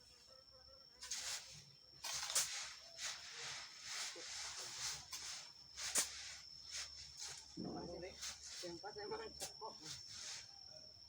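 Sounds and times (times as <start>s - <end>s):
sand swishing through sieve: 1.0s - 10.6s.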